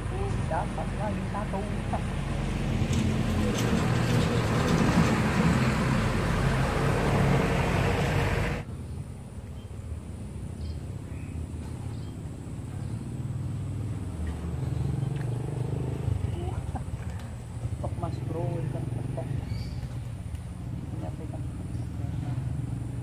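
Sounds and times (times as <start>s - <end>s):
faint engine hum: 0.0s - 23.0s
motor vehicle engine: 0.0s - 23.0s.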